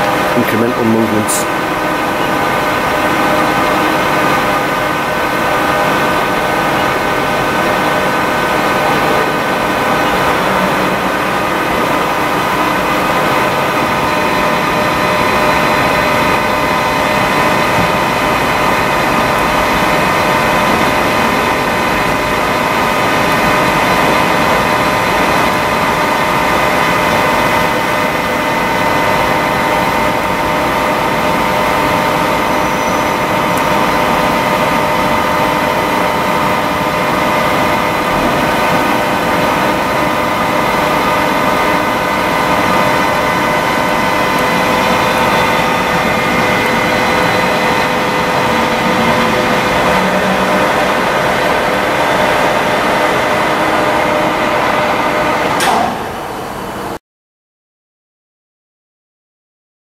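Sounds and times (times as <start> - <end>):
lathe running with whining tones: 0.0 - 56.9.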